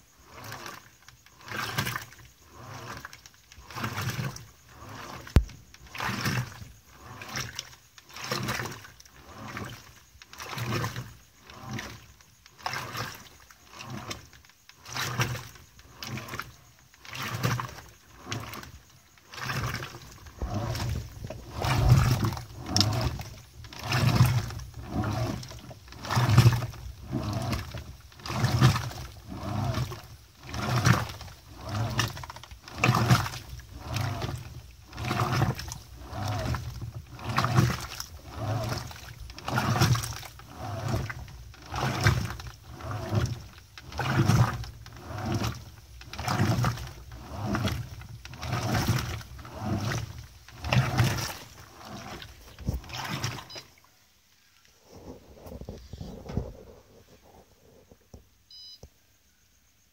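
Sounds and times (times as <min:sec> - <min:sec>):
washing machine agitating: 0:00.0 - 0:54.0, 0:54.8 - 0:57.8.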